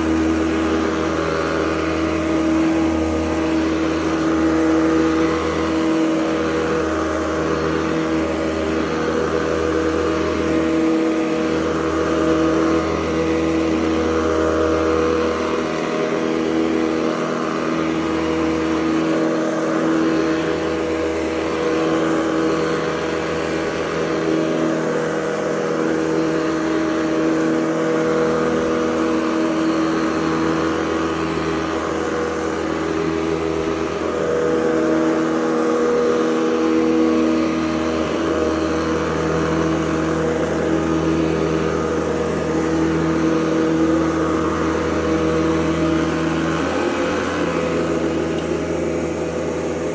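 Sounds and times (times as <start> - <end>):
upright vacuum cleaner running: 0.0 - 49.9.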